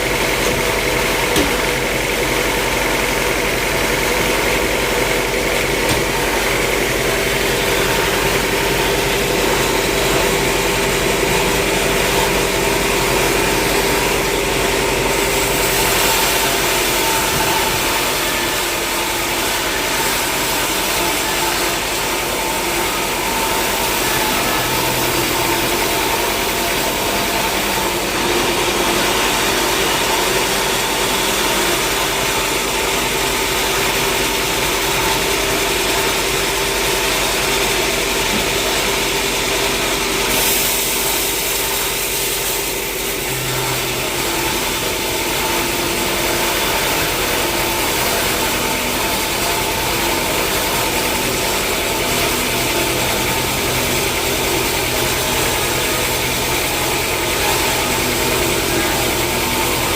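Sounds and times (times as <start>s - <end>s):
machinery whining: 0.0s - 59.9s
sawmill machinery drone: 0.0s - 59.9s.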